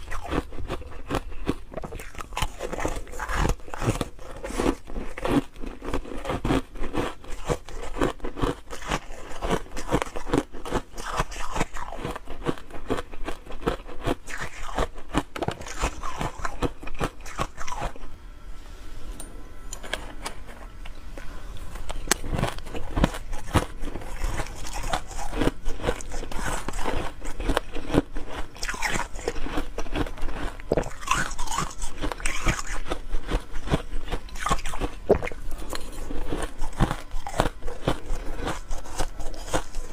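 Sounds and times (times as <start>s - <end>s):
ice being chewed: 0.0s - 18.1s, 19.8s - 39.9s.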